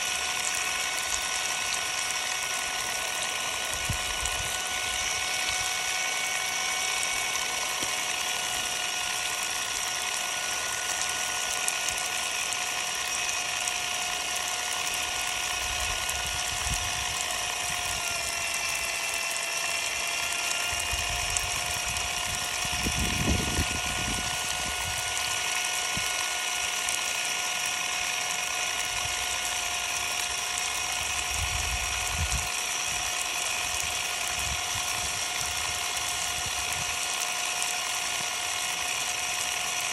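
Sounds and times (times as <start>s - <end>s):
impact driver motor whining: 0.0s - 39.9s.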